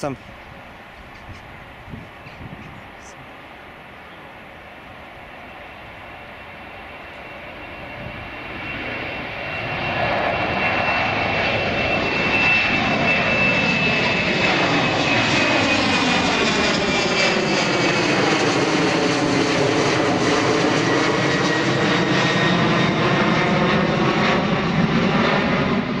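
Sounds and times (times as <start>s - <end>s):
jet engines roaring overhead: 0.0s - 26.0s.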